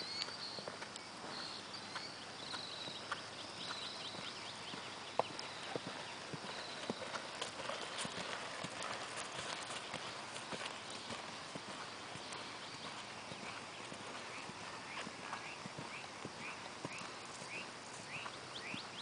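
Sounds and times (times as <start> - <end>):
horse hoofbeats clip-clop: 0.0 - 19.0.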